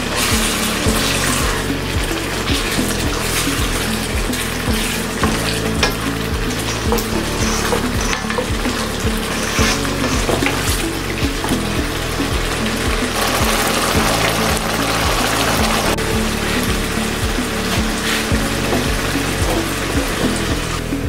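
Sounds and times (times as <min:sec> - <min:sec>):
background music with steady beat: 0:00.0 - 0:21.0
vegetables sizzling in pot: 0:00.0 - 0:21.0.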